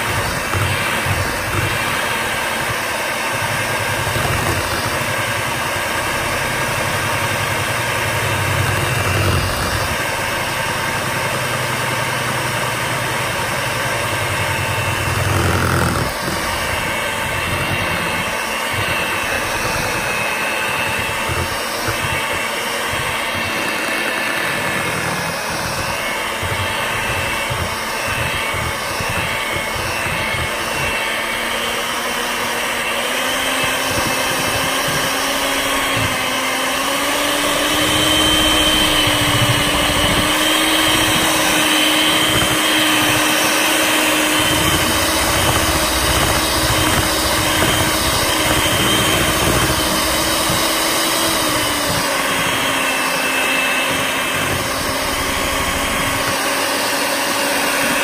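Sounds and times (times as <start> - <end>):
electric hand mixer whirring: 0.0 - 58.0
low mixer hum: 0.0 - 58.0.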